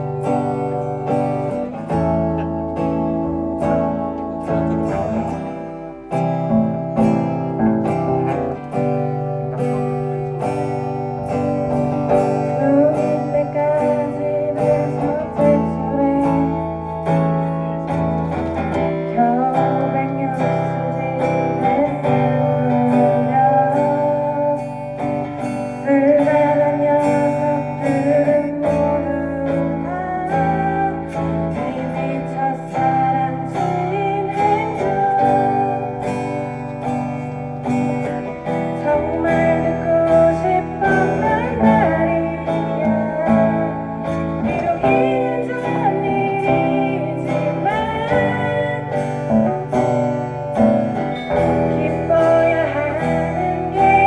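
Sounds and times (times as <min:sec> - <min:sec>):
guitars: 0:00.0 - 0:54.0.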